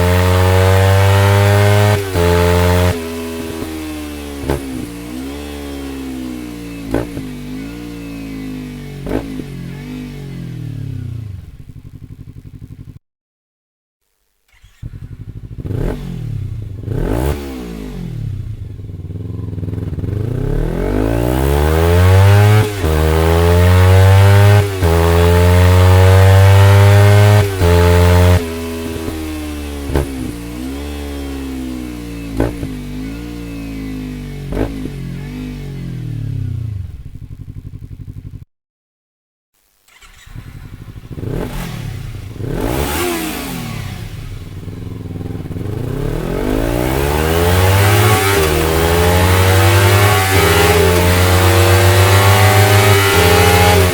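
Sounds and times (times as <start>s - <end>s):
motorcycle accelerating past: 0.0s - 12.4s, 14.6s - 18.6s, 19.3s - 37.0s, 39.9s - 53.9s
motorcycle engine revving in blips: 0.0s - 13.0s, 14.5s - 38.4s, 39.9s - 53.9s.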